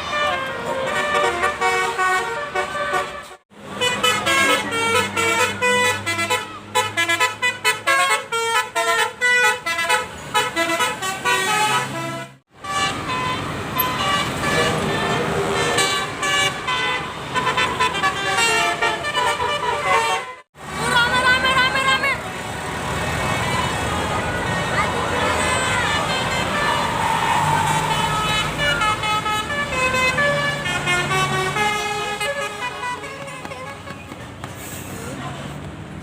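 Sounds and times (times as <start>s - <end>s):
bus musical horns playing tunes: 0.0s - 20.5s, 23.4s - 34.0s.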